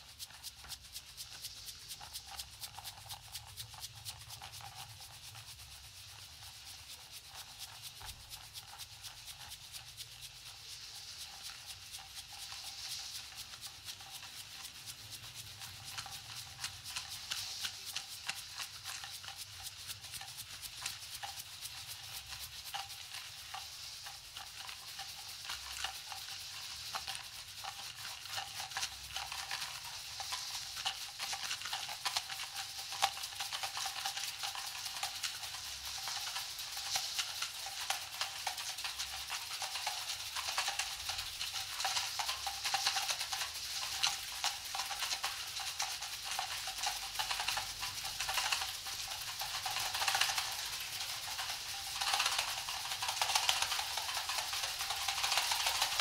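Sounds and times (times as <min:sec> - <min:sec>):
hand shakers rattling: 0:00.0 - 0:56.0.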